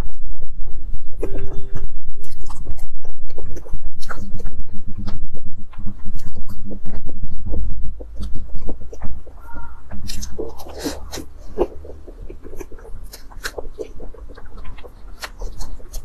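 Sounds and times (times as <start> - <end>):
low rumble: 0.0 - 15.0
close-miked chewing: 1.0 - 16.0.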